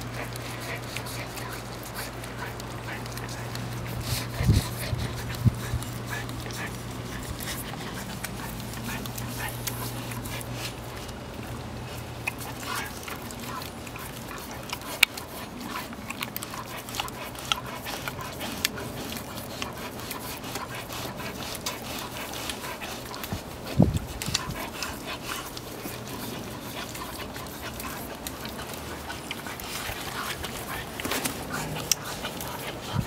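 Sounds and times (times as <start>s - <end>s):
dog licking and smacking: 0.0s - 33.0s.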